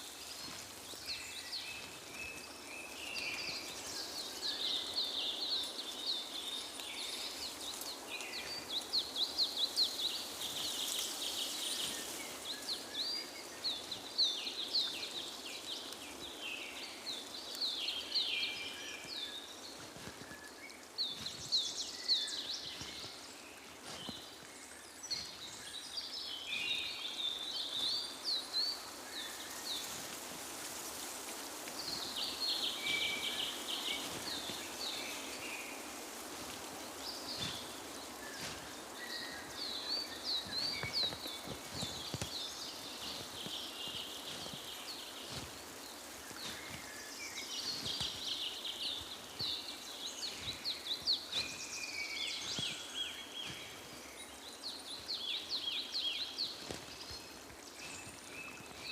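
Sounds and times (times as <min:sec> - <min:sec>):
faint steady hiss: 0:00.0 - 0:58.9
songbirds chirping and trilling: 0:00.0 - 0:58.9.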